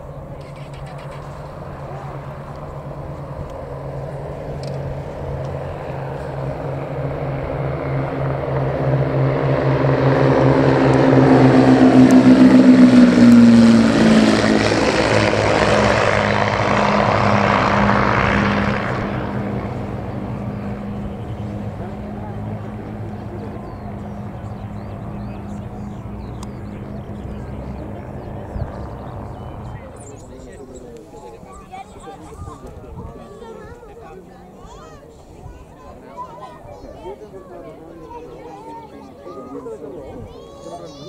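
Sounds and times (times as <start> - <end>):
propeller aircraft flying past: 0.0 - 41.0.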